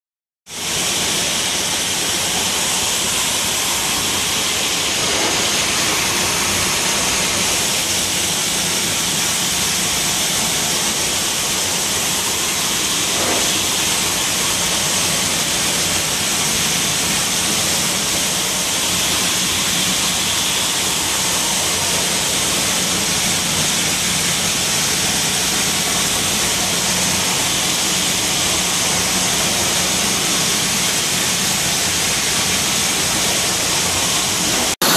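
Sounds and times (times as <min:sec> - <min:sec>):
high-pressure water spray hissing: 0:00.5 - 0:34.9.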